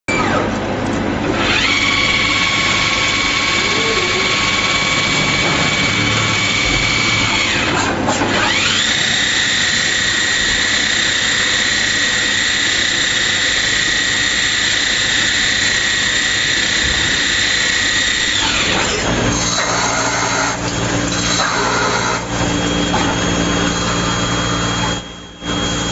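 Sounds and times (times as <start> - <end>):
lathe spindle whine: 1.3 - 25.9.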